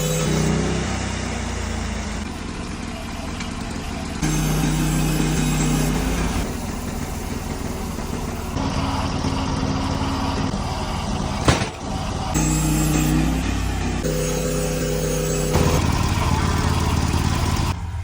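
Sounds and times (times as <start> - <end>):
sawmill engine running: 0.0 - 18.0.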